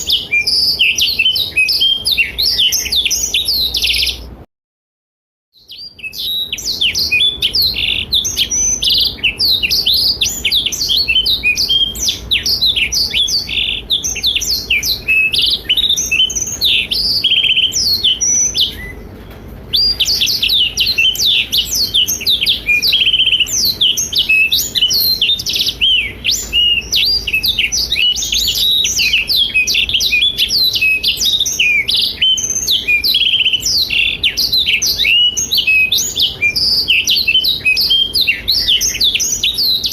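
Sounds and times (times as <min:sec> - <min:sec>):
bird singing fast twittering song: 0:00.0 - 0:04.4, 0:05.6 - 0:39.9.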